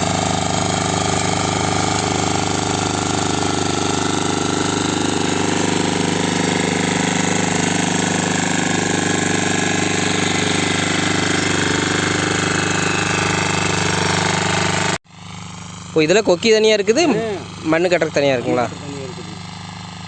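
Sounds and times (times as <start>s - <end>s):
single-cylinder engine running: 0.0s - 20.0s.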